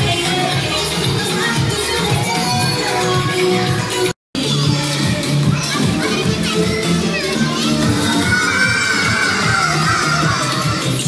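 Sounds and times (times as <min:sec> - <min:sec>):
loud pop dance music: 0:00.0 - 0:11.0.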